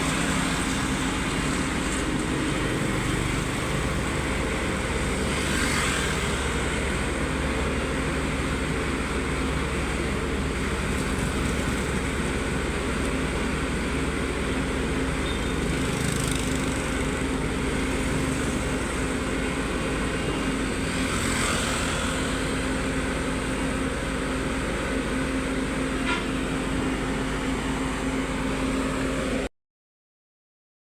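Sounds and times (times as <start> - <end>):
heavy equipment engine running: 0.0 - 29.5.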